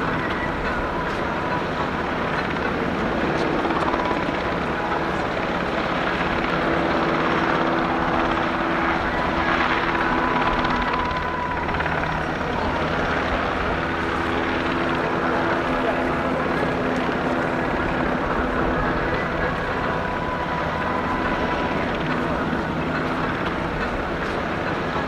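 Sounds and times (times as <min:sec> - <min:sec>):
helicopter engine and rotor hum: 0:00.0 - 0:25.0.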